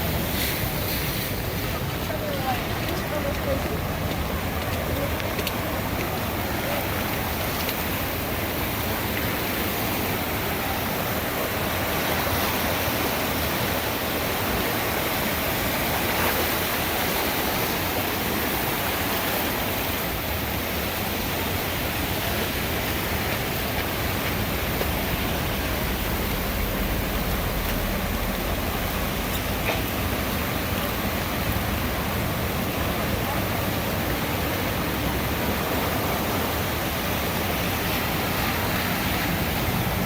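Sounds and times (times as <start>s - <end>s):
river rushing in a roar: 0.0s - 40.0s.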